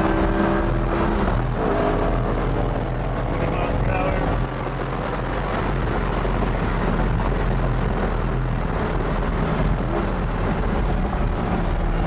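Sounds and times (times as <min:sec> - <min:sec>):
car engine droning: 0:00.0 - 0:12.0
wind noise: 0:00.0 - 0:12.0.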